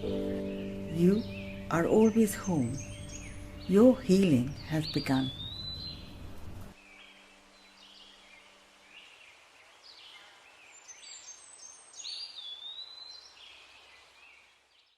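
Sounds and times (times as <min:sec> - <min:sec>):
forest birds singing: 0:00.0 - 0:14.9.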